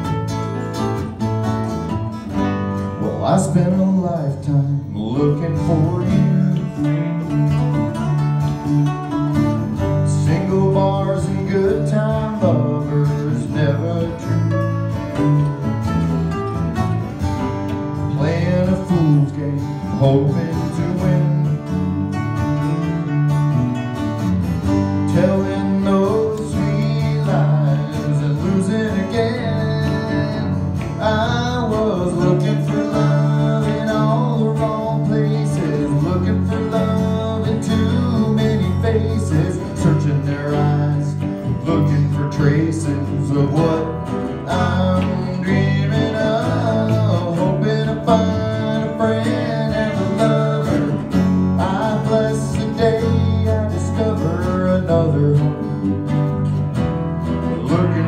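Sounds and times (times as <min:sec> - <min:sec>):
acoustic guitars strumming: 0:00.0 - 0:58.0
electric bass: 0:00.0 - 0:58.0
melodic guitar lines: 0:00.0 - 0:58.0.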